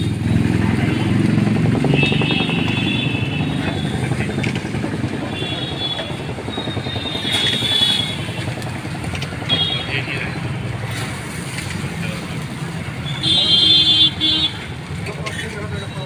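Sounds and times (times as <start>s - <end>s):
motorcycle engines running: 0.0s - 16.0s
roadside traffic: 0.0s - 16.0s.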